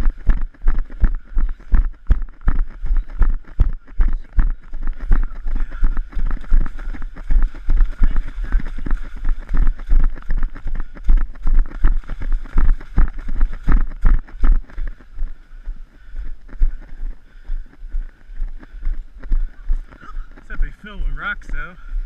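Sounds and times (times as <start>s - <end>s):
footsteps splashing through mud: 0.0s - 20.8s.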